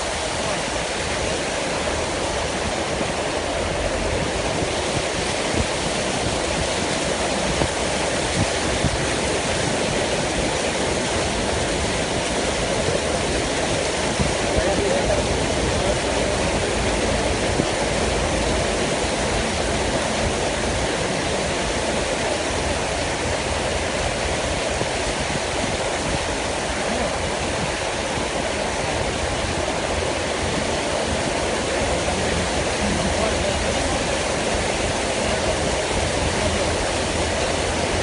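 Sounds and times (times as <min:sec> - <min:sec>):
floodwater rushing: 0:00.0 - 0:38.0.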